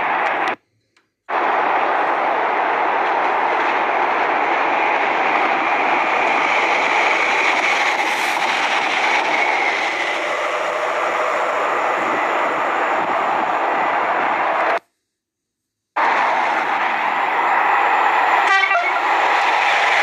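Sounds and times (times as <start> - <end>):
train passing: 0.0 - 14.9, 15.9 - 20.0.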